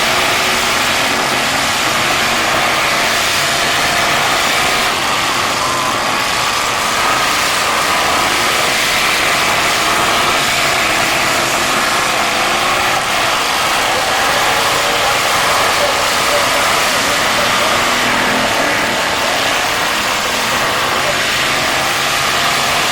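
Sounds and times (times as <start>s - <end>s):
car engines revving: 0.0s - 22.9s.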